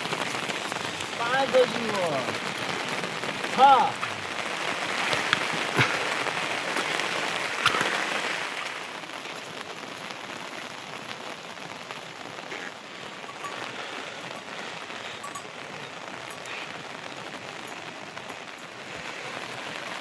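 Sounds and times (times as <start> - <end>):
drips and ticks: 0.0 - 20.0
heavy rain: 0.0 - 20.0.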